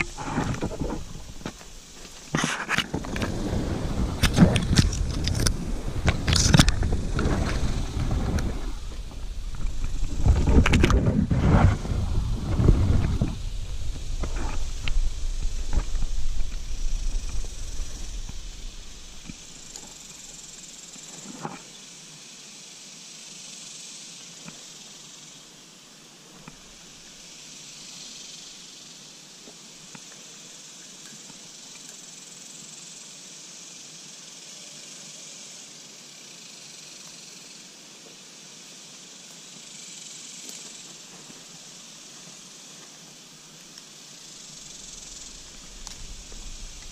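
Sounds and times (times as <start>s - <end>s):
insect chorus hissing: 0.0s - 46.9s.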